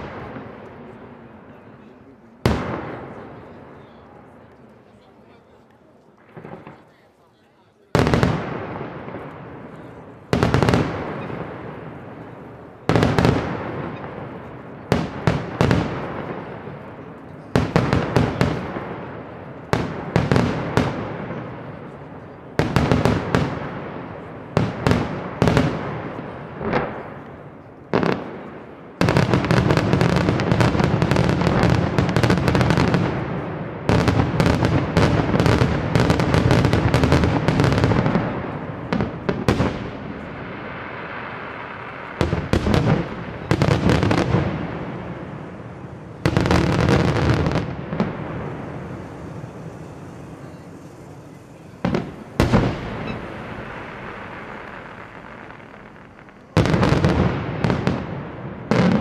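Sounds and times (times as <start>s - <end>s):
fireworks bursting with loud bangs: 0.0s - 59.0s.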